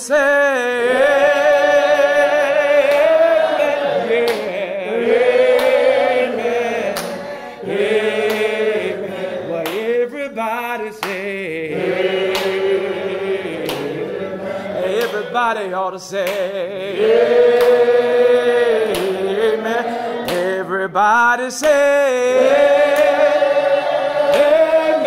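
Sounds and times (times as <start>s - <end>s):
men singing without instruments: 0.0s - 25.0s.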